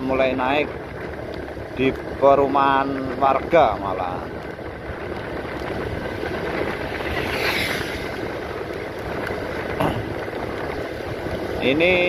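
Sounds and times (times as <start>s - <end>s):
vehicle road noise: 0.0s - 12.0s
wind on microphone: 0.0s - 12.0s.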